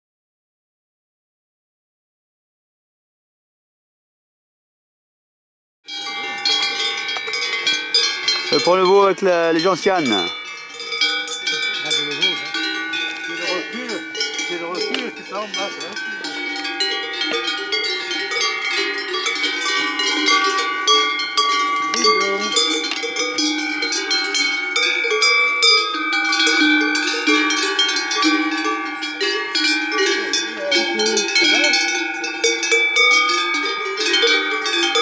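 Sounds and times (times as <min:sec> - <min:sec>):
cowbells clanging: 0:05.9 - 0:35.0.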